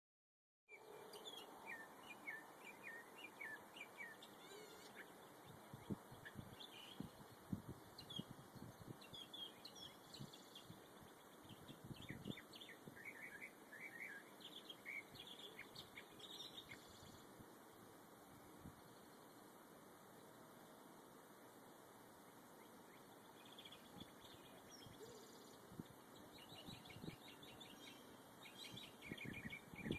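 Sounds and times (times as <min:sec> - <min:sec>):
songbird chirping: 0:00.7 - 0:29.9.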